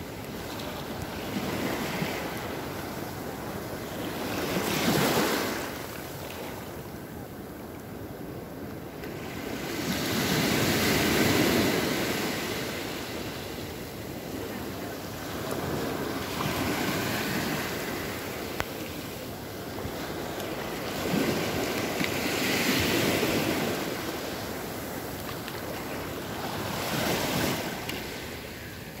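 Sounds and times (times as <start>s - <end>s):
sea surf washing in: 0.0s - 7.5s, 8.9s - 29.0s.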